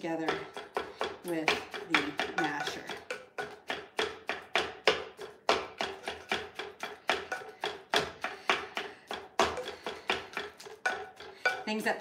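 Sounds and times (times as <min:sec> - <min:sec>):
plastic masher knocking on baking dish: 0:00.0 - 0:12.0.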